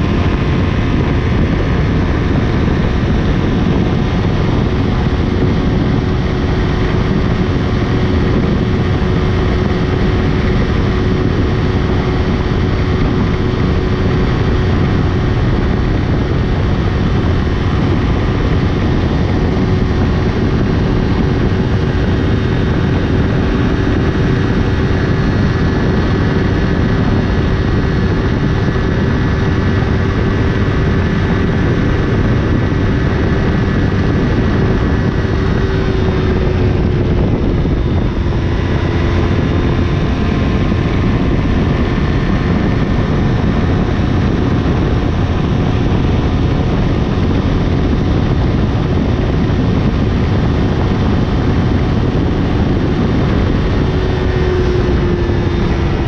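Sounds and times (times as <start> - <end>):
motorcycle engine at high rpm: 0.0 - 56.0
wind rush on microphone: 0.0 - 56.0.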